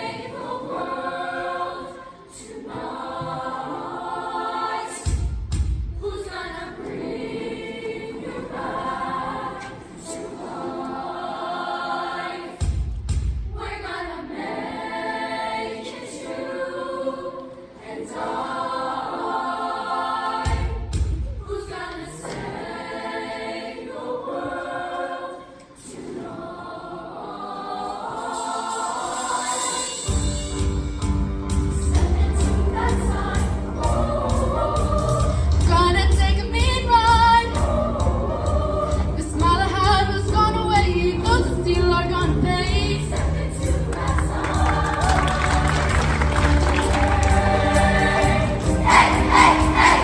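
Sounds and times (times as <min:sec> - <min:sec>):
choir singing in harmony: 0:00.0 - 0:50.0.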